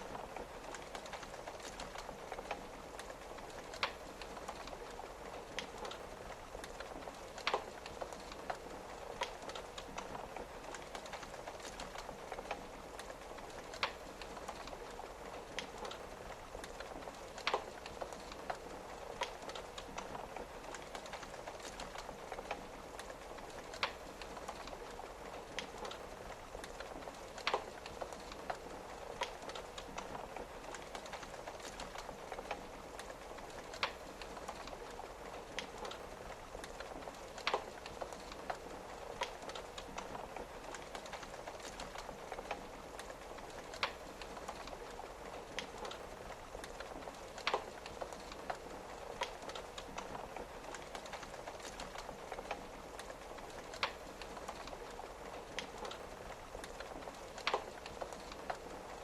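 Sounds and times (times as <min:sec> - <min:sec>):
rain on a window: 0:00.0 - 0:59.0
wood fire crackling: 0:00.0 - 0:59.0.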